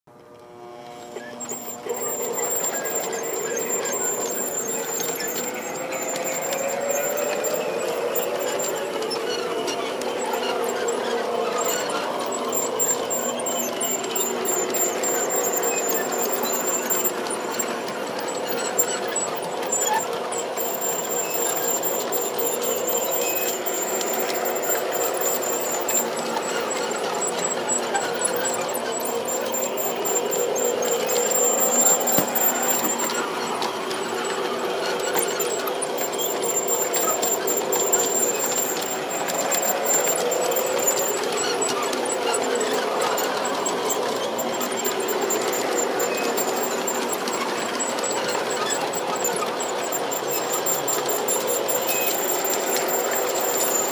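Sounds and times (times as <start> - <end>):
model train motor whine: 0.1 - 53.9
wheels rolling over track: 0.3 - 53.9.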